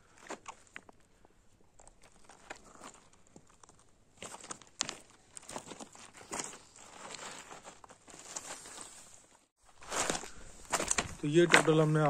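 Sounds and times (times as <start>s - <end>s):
footsteps crunching on stony ground: 1.8s - 12.0s.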